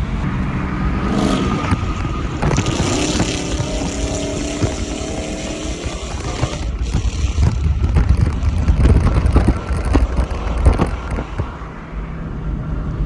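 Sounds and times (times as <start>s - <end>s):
vehicle noise: 0.0s - 13.0s
wind buffeting microphone: 0.0s - 13.0s.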